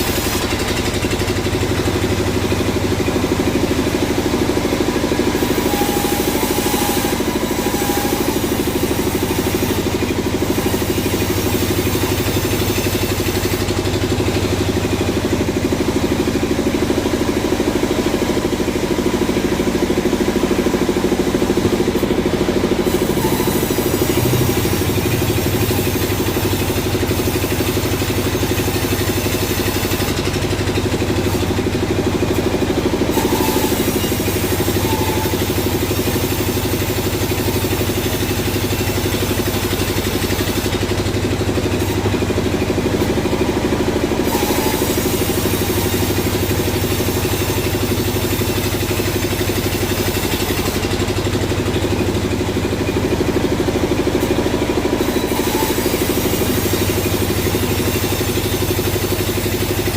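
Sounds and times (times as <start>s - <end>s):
sawmill machinery engine drone: 0.0s - 59.9s.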